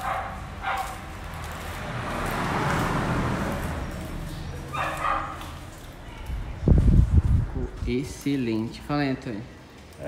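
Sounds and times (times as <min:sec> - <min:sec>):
road vehicle passing: 0:00.0 - 0:09.6.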